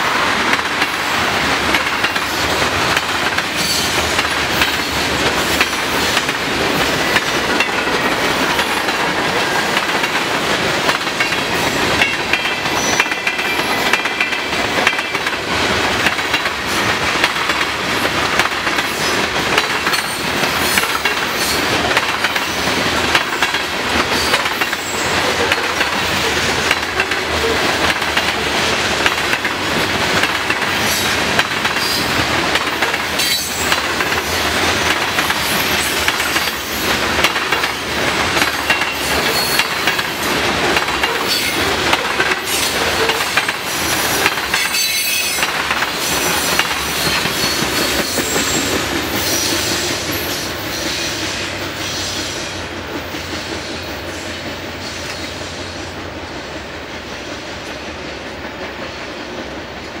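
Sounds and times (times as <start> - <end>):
train wheels clattering over rails: 0.0 - 60.0.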